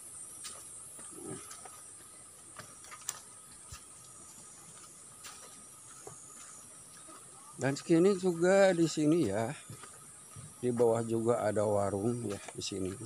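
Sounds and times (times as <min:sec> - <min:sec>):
footsteps on dirt path: 0:00.0 - 0:13.0
insects chirring: 0:00.0 - 0:13.0.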